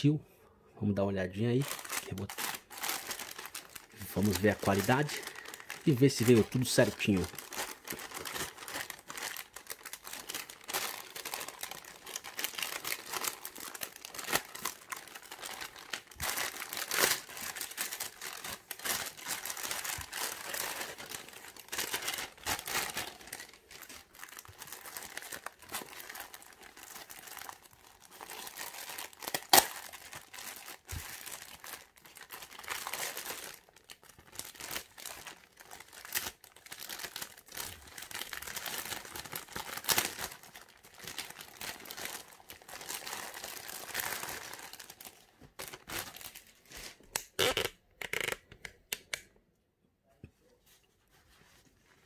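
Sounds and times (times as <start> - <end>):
plastic bag rustling and crackling: 1.5 - 47.0
plastic bag being torn: 1.6 - 48.4.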